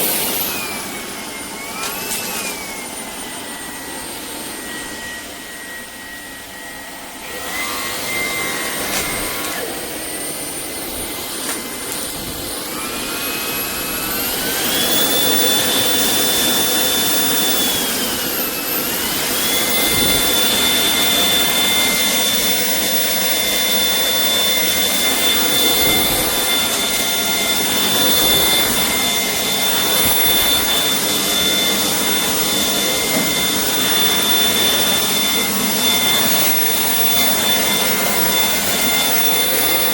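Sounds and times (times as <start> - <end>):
vacuum motor whining: 0.0 - 39.9.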